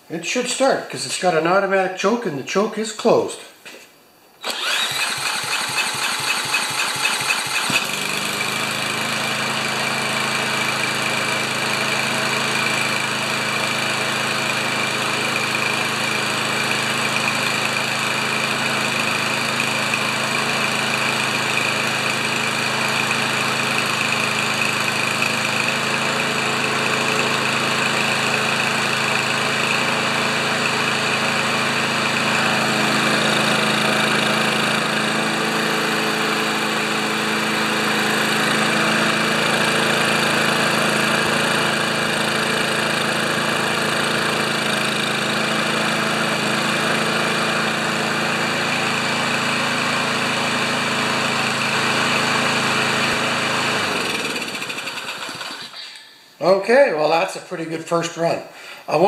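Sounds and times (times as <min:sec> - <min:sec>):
lawn mower engine running: 0:04.4 - 0:56.1.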